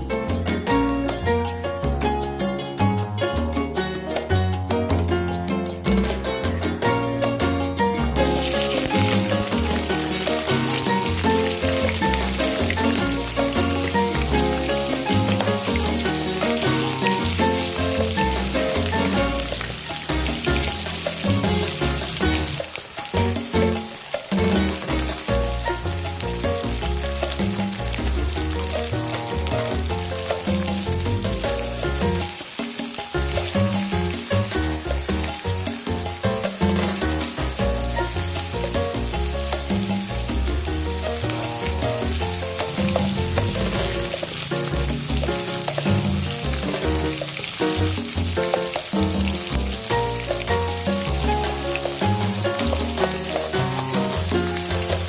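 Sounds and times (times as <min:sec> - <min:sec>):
background music with low notes: 0:00.0 - 0:55.0
food sizzling in hot oil: 0:00.0 - 0:55.0.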